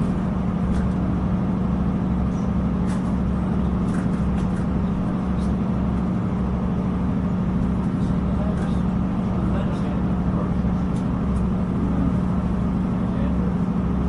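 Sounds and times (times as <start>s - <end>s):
passenger train running: 0.0s - 14.0s.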